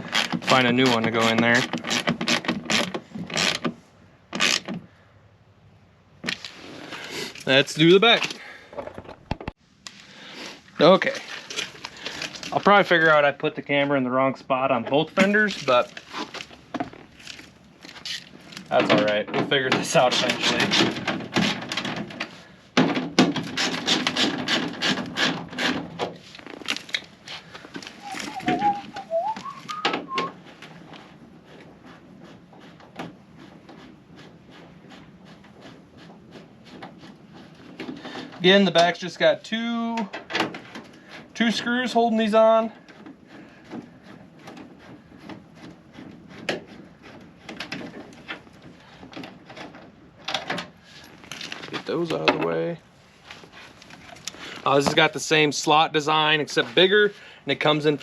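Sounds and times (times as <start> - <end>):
scraping and rubbing noises: 0.0 - 4.8, 6.2 - 14.1, 14.7 - 22.6, 23.3 - 58.0.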